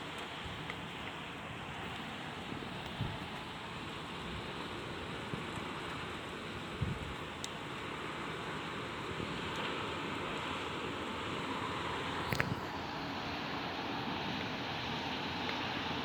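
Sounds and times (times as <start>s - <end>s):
rain: 0.0s - 16.0s
wind: 0.0s - 16.0s.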